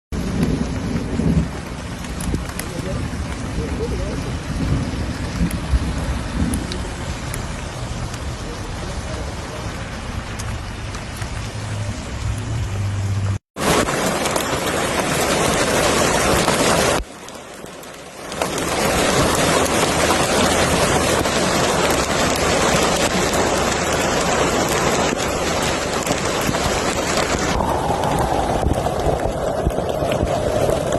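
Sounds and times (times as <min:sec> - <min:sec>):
heavy rain falling: 0:00.1 - 0:30.9.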